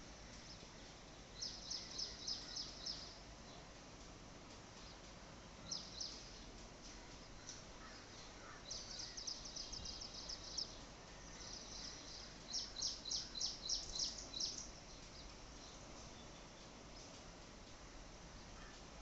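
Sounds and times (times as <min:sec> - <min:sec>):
background hiss: 0:00.0 - 0:19.0
small bird chirping: 0:00.3 - 0:03.7, 0:04.8 - 0:17.2.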